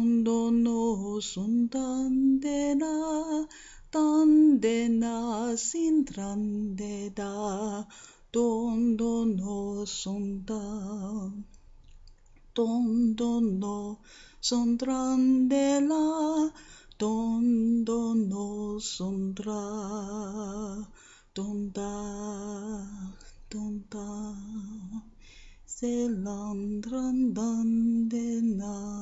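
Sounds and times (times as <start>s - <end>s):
person singing alone: 0.0s - 11.5s, 12.6s - 25.1s.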